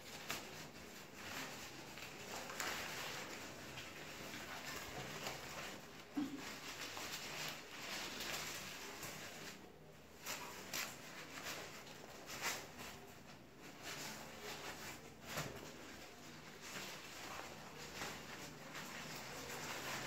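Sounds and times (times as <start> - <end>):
fabric rustling and scratching: 0.0 - 20.0.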